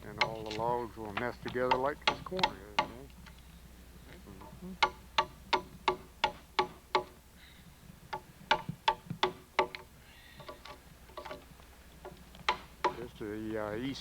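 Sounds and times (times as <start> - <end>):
hammer striking steel chisel: 0.0 - 3.4, 4.4 - 7.2, 8.1 - 13.2.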